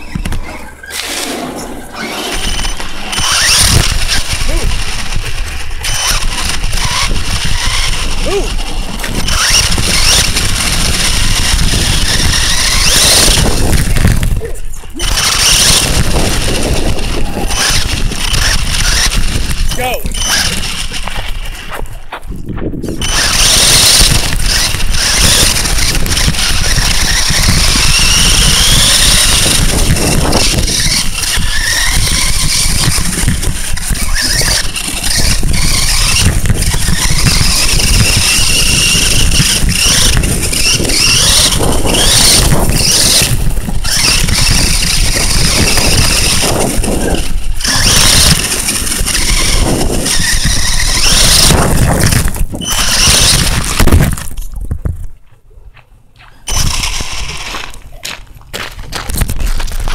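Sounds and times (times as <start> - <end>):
electric motor and gears whining: 0.0 - 55.0, 56.3 - 59.9
tyres rumbling on rough ground: 0.0 - 55.2, 56.4 - 59.9.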